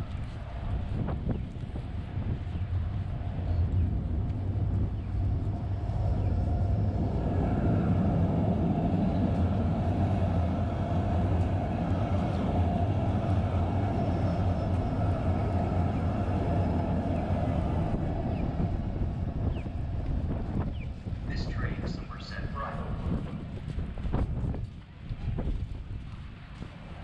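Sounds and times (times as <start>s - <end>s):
light-rail train humming: 0.0s - 27.0s.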